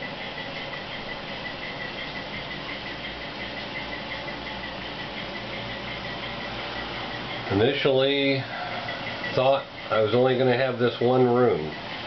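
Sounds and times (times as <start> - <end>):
model locomotive engine sound: 0.0 - 12.0.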